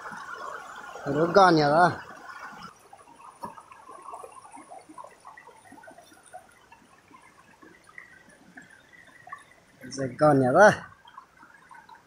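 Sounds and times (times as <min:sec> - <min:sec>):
shallow stream trickling: 0:00.0 - 0:12.0.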